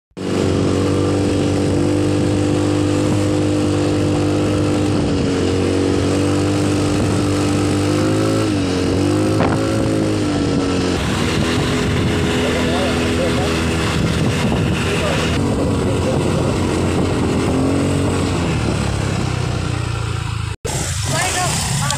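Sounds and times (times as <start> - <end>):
wind rushing over microphone: 0.2 - 20.0
motorcycle engine cruising: 0.2 - 21.9.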